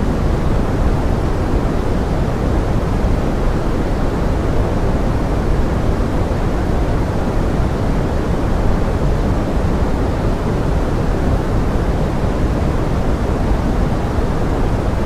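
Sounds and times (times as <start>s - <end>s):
steady pink noise hiss: 0.0s - 15.0s.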